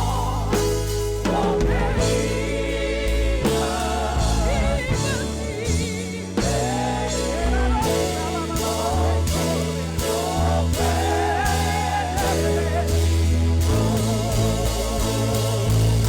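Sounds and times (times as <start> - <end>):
keyboard bass and drums: 0.0 - 16.0
voices singing: 0.0 - 16.0.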